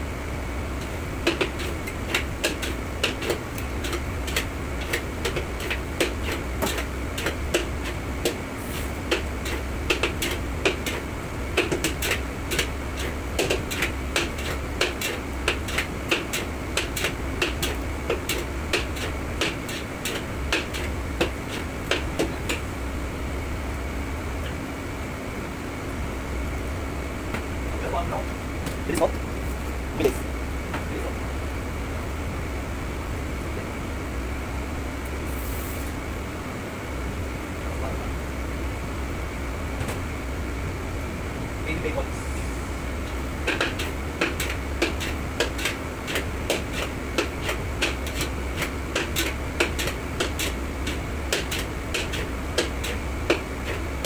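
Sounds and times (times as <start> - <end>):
kitchen ventilation hum: 0.0 - 54.0.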